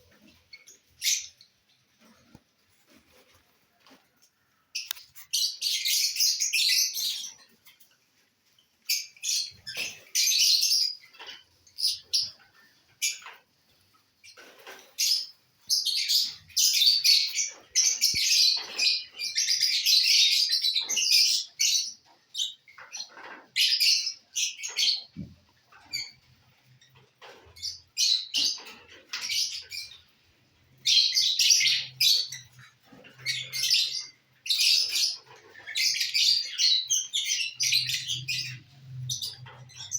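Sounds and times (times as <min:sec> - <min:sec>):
lovebirds chattering: 0:00.0 - 0:03.4, 0:04.2 - 0:07.9, 0:08.5 - 0:39.9.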